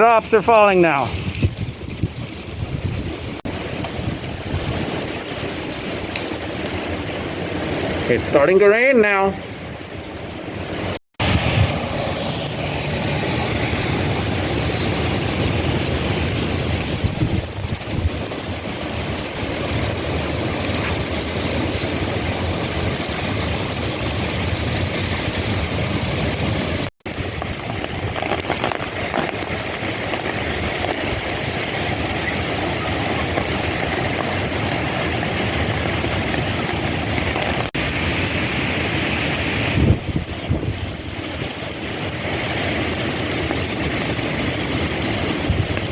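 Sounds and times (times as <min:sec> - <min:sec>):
gusting wind: 0:00.0 - 0:45.9
heavy rain falling: 0:00.0 - 0:45.9.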